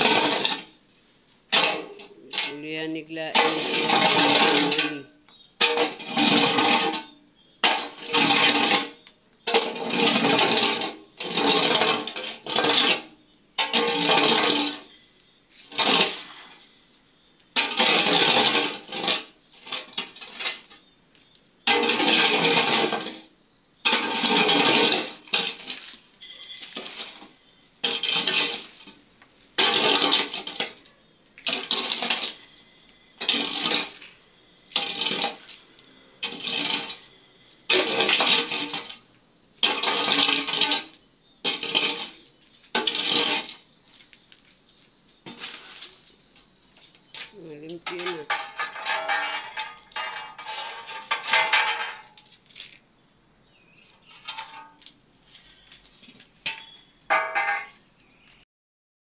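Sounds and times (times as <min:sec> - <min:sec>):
iron bar scraping concrete rubble: 0:00.0 - 0:21.0, 0:21.6 - 0:44.3, 0:45.2 - 0:52.8, 0:53.4 - 0:58.4.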